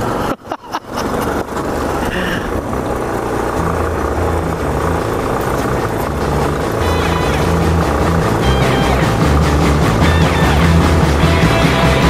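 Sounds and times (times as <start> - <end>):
motorcycle engine running: 0.0 - 12.0
tyres on gravel road: 0.0 - 12.0.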